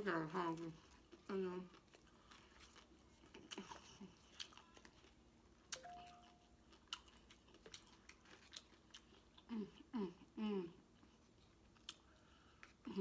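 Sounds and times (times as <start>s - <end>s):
chewing food: 0.1s - 9.9s, 11.0s - 13.0s.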